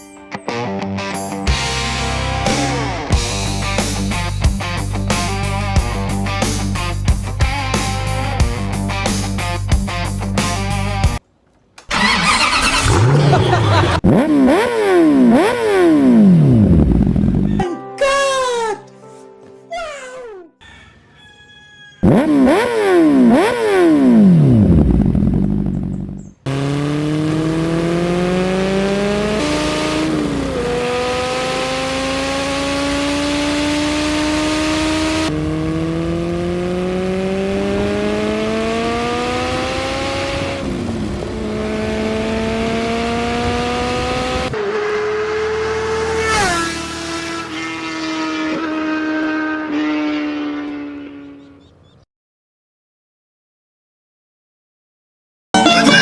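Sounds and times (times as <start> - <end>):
motorcycle engine revving: 1.2 - 11.2, 11.8 - 17.6, 22.0 - 52.0.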